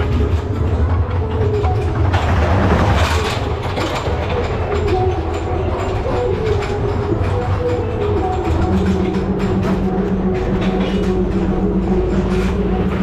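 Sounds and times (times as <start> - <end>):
coaster car clattering: 0.0 - 13.0
coaster wheels rumbling on rails: 0.0 - 13.0.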